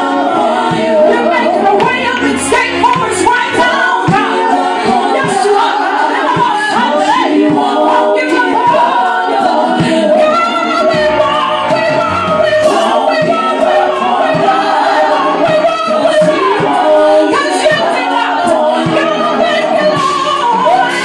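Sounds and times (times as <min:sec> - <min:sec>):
women singing gospel through microphones: 0:00.0 - 0:21.0.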